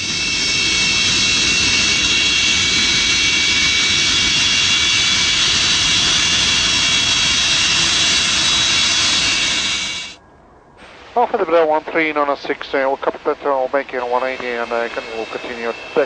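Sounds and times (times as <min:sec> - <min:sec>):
jet engines rushing: 0:00.0 - 0:10.2, 0:10.8 - 0:16.0
high whining engine tones: 0:00.0 - 0:16.0.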